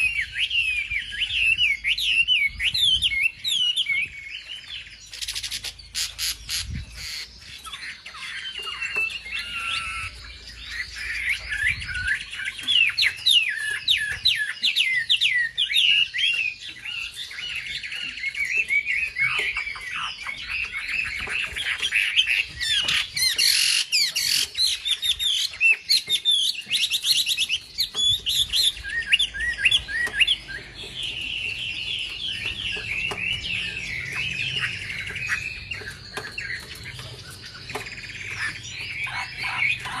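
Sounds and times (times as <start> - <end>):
bird song with rapid chirps and trills: 0.0 - 40.0.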